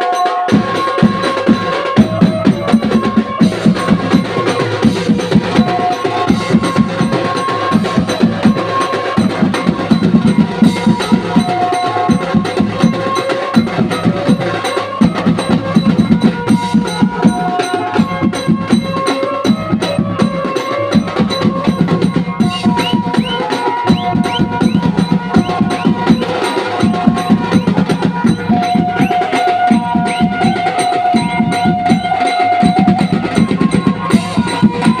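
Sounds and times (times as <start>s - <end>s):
fast drumming on metal drums: 0.0s - 35.0s.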